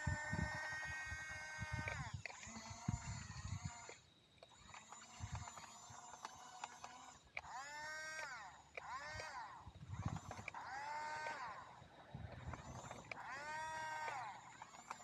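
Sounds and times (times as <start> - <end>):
plastic tracks and gears clicking: 0.0 - 15.0
small electric motors whining: 0.0 - 15.0.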